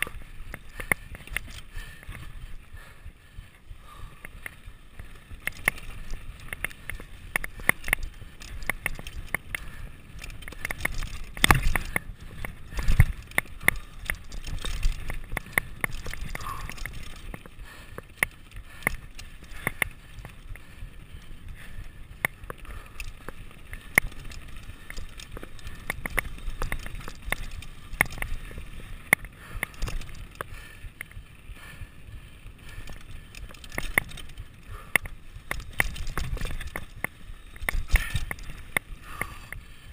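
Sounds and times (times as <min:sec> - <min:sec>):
bike jolts: 0:00.0 - 0:39.9
bike rattling and clicking: 0:00.0 - 0:39.9
bike tyre rumble on dirt: 0:00.0 - 0:39.9.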